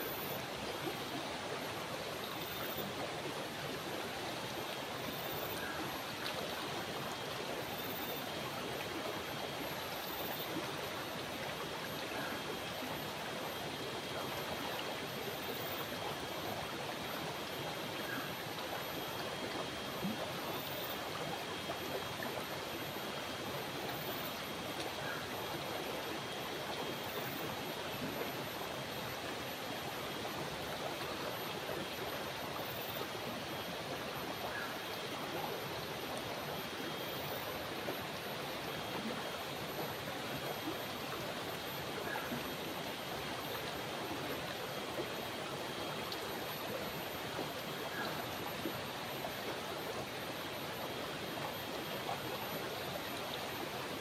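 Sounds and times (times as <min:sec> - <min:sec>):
river flowing around rocks: 0:00.0 - 0:54.0.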